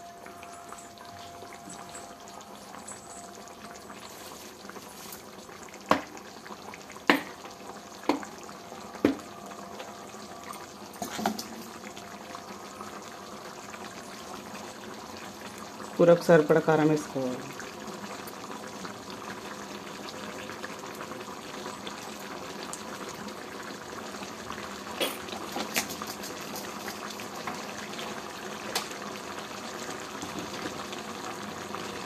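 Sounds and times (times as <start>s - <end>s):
curry gravy bubbling: 0.2s - 32.0s.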